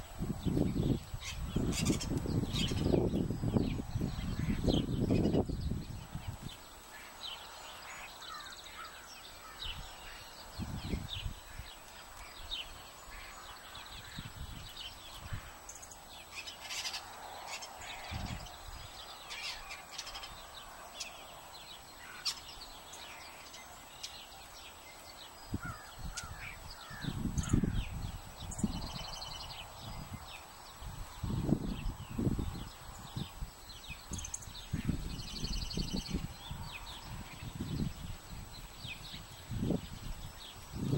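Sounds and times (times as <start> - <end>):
songbirds chirping: 0.0 - 40.9
harsh bird calls: 0.5 - 40.9.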